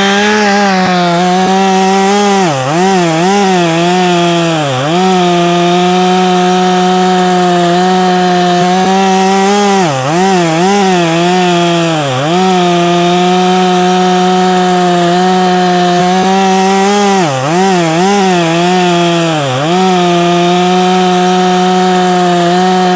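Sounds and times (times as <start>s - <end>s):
chainsaw cutting wood: 0.0s - 22.9s.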